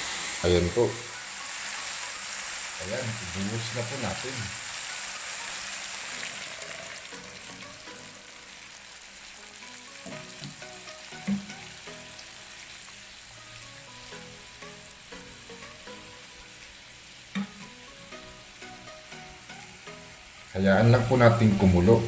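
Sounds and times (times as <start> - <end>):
sizzling in a hot pan: 0.0 - 22.0.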